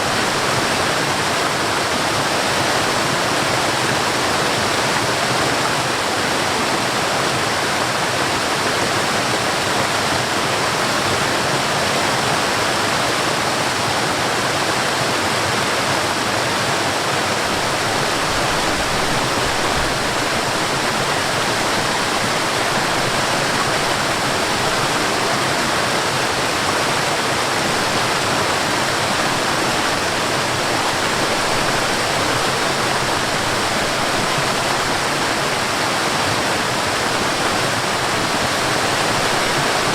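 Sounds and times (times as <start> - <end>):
water pouring and rushing: 0.0 - 39.9.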